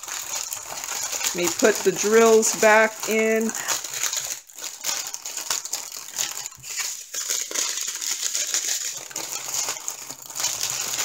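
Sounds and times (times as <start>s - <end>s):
thin plastic crinkling: 0.0s - 11.0s.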